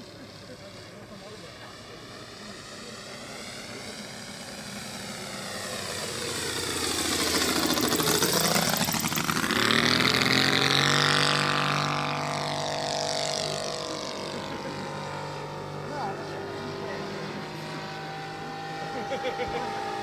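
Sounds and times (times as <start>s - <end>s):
model airplane engine passing: 0.0s - 20.0s.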